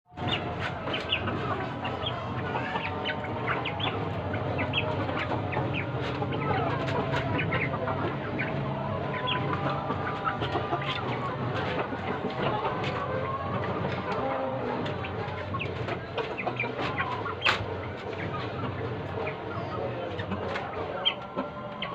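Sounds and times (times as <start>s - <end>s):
chickens clucking and peeping: 0.1s - 21.9s.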